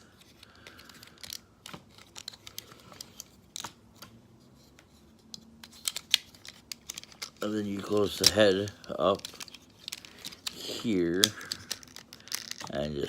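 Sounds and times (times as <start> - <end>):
plastic toy parts clicking: 0.2 - 4.1, 5.2 - 13.0.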